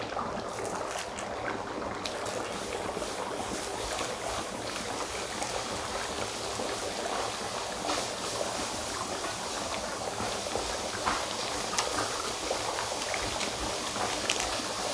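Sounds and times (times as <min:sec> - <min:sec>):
dry ice bubbling in water: 0:00.0 - 0:14.9.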